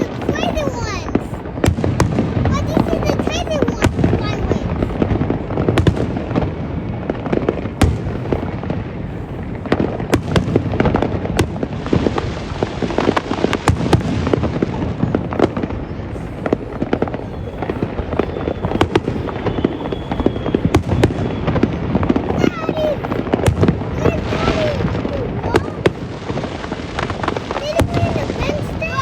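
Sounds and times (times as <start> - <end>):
fireworks bangs: 0.0 - 29.0
fireworks crackling: 0.0 - 29.0
fireworks rumble: 0.0 - 29.0.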